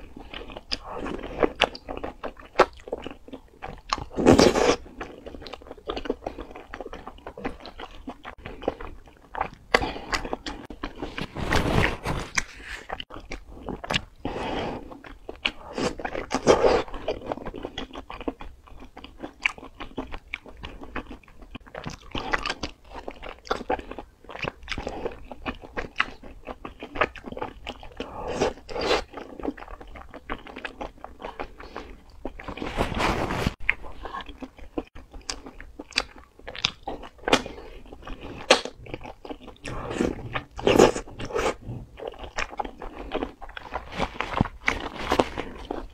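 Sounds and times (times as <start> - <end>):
chewing noodles: 0.0 - 45.9.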